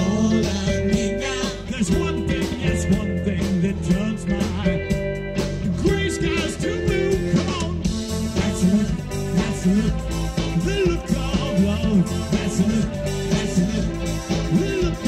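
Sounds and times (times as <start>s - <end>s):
drum beat: 0.0s - 15.0s
electric bass: 0.0s - 15.0s
man singing: 0.0s - 15.0s.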